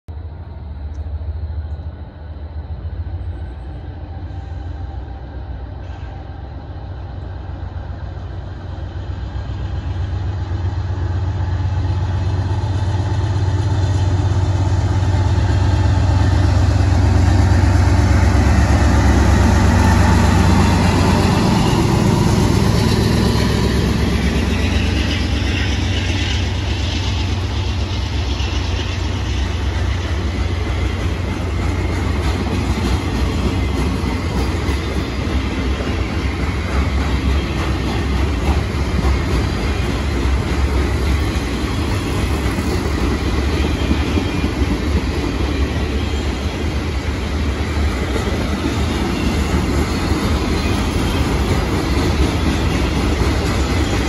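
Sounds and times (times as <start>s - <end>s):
diesel locomotive engine rumble: 0.1s - 54.0s
wheels hissing on rail: 0.2s - 54.0s.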